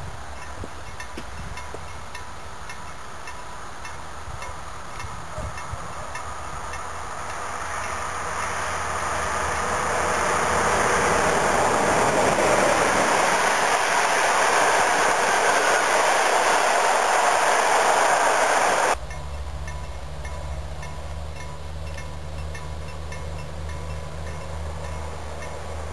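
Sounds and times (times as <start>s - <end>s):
train passing at speed: 0.0s - 25.9s.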